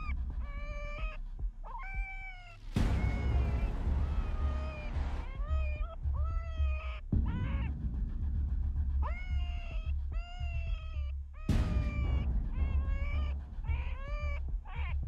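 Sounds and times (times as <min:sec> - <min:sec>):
low rumble: 0:02.6 - 0:15.0.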